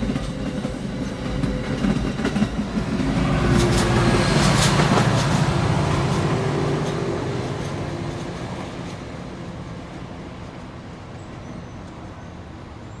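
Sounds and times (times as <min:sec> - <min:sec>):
rail rumble: 0:00.0 - 0:10.7
diesel train departing: 0:00.0 - 0:13.0.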